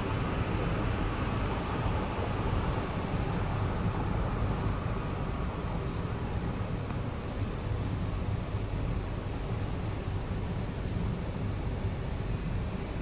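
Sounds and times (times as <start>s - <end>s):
train rumbling along rails: 0.0s - 13.0s.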